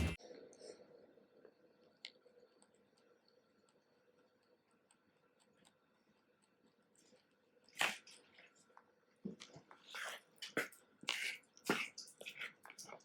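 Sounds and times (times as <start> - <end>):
rabbit chewing and crunching food: 2.1 - 13.0.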